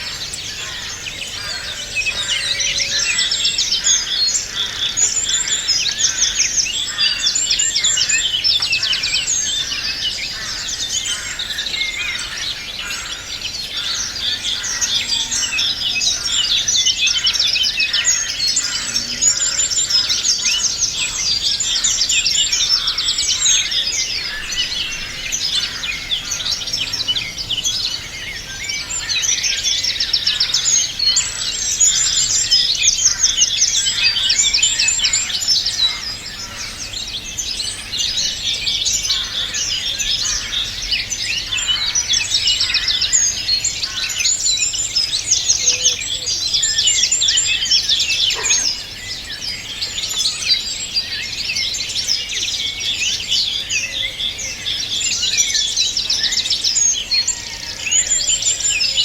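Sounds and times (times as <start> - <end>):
songbirds chorus: 0.0 - 59.0.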